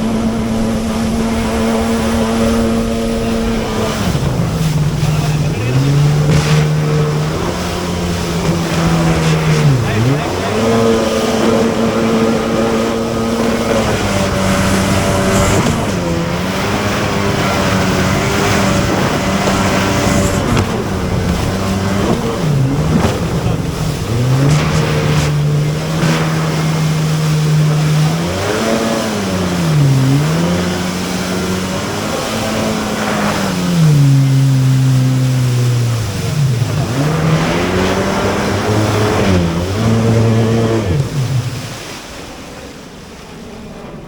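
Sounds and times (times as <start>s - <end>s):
watercraft engine revving: 0.0s - 44.0s.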